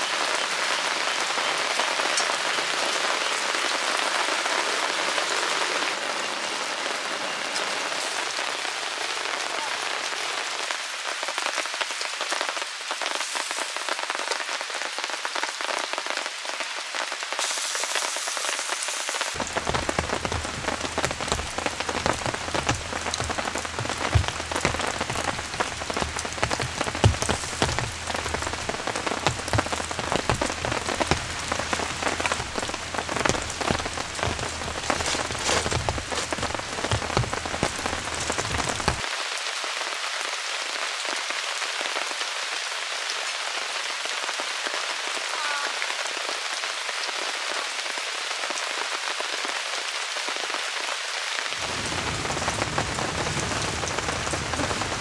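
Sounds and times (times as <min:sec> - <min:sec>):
raindrops striking a surface: 0:00.0 - 0:55.0
soft rain hiss: 0:00.0 - 0:55.0.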